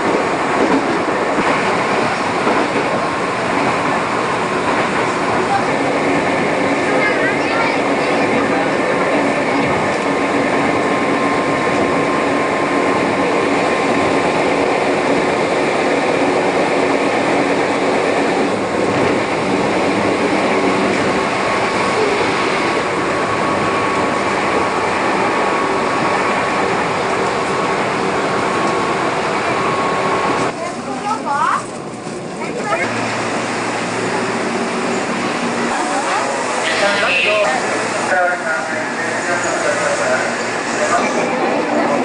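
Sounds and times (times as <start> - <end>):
train wheel and track rumble: 0.0 - 42.0.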